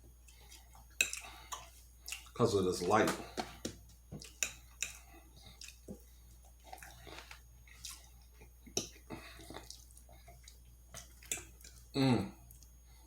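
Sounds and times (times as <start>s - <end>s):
person chewing food: 0.0s - 2.4s, 3.3s - 13.0s.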